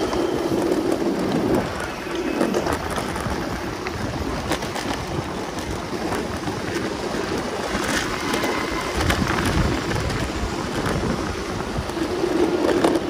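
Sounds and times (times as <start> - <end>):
longboard wheels rolling on pavement: 0.0 - 13.0
wheels clicking over road cracks: 0.0 - 13.0
wind on microphone: 0.0 - 13.0.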